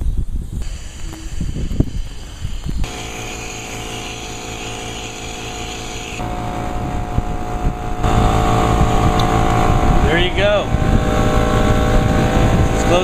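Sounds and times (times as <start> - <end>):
power buffer motor humming: 0.6 - 13.0.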